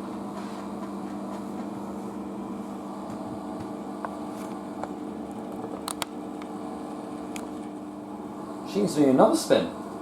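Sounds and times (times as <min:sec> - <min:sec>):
washing machine hum: 0:00.0 - 0:10.0.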